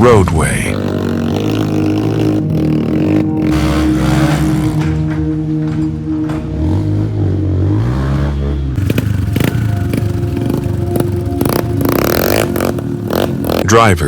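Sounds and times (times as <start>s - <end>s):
vehicle engine revving: 0.0s - 13.7s
vehicle engines running: 0.0s - 14.0s
rough clattering engine knocking: 0.7s - 13.6s.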